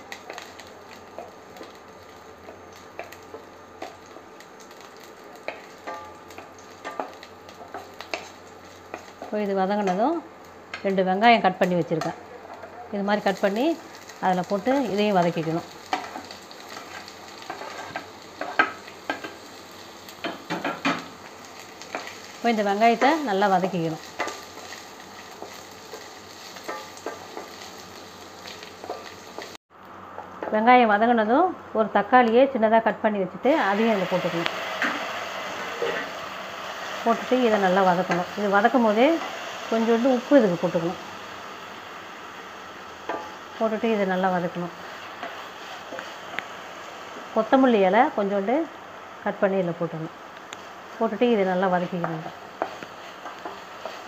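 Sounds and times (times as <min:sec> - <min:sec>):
garlic sizzling in oil: 0:00.0 - 0:29.6, 0:30.5 - 0:54.0.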